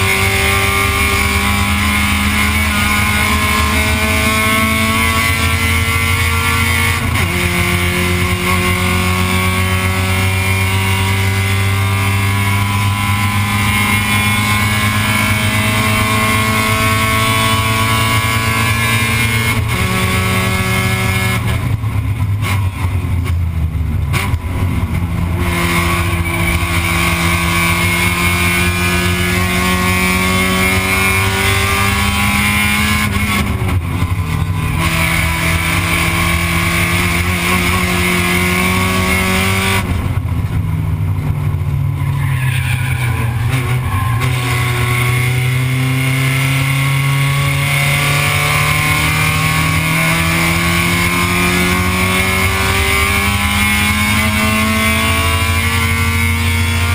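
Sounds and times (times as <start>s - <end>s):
race car engine: 0.0s - 56.9s
road and wind noise: 0.0s - 56.9s.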